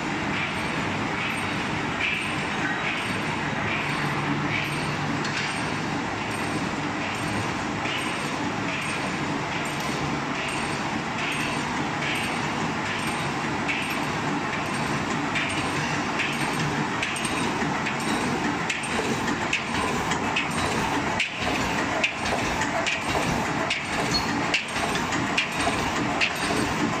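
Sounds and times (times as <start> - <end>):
regular machine clack: 0.2 - 27.0.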